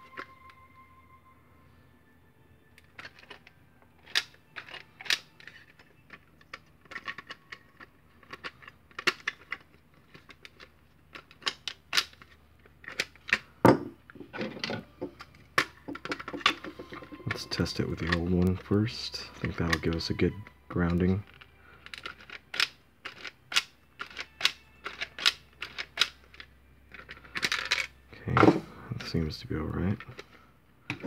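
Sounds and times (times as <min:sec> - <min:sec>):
plastic parts clicking and knocking: 0:02.8 - 0:18.8, 0:19.4 - 0:29.2, 0:29.8 - 0:31.0.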